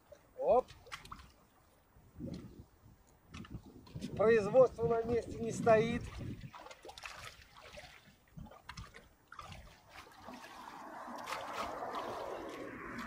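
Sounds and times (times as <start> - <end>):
small waves lapping on concrete: 0.0 - 4.4, 5.0 - 13.0.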